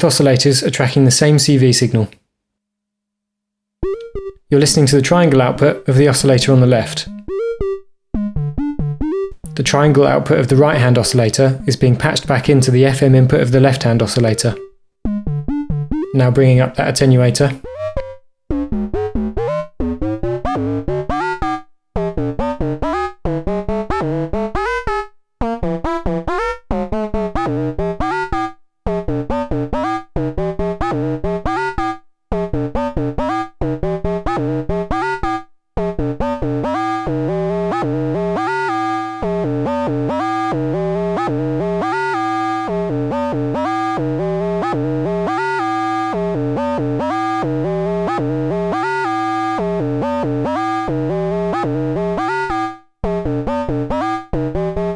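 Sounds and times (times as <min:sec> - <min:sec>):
synthesizer sequence of short notes: 0:03.8 - 0:11.3, 0:13.7 - 0:24.9, 0:26.4 - 0:54.9.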